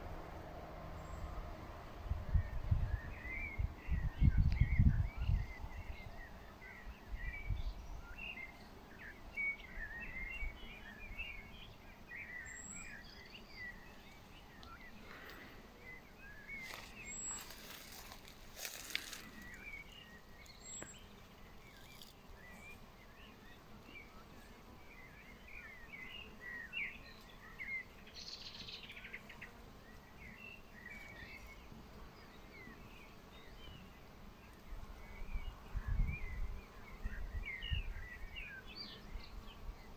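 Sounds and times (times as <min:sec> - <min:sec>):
small birds chirping: 0:02.4 - 0:39.9.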